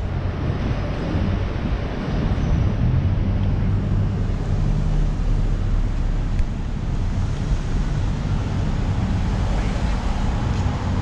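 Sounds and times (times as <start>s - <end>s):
cars passing on road: 0.0s - 11.0s.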